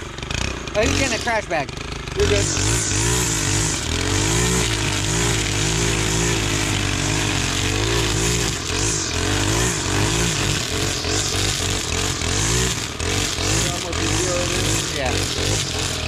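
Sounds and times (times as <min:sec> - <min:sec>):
small engine cutting brush: 0:00.0 - 0:16.0.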